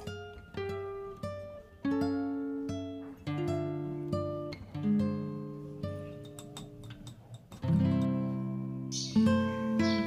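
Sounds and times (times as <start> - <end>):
acoustic guitar plucked chords: 0.0 - 10.0.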